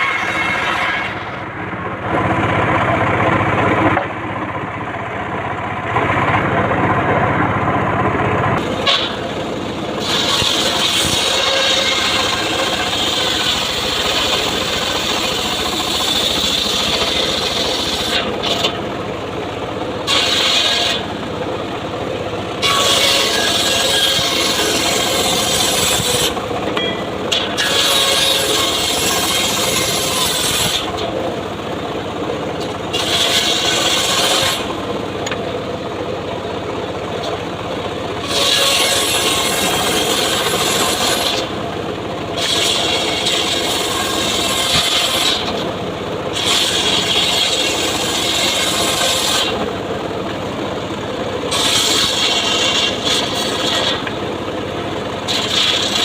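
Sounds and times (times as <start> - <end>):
circular saw cutting wood: 0.0 - 4.6, 8.4 - 35.6, 37.2 - 56.0
circular saw running freely: 0.0 - 56.0.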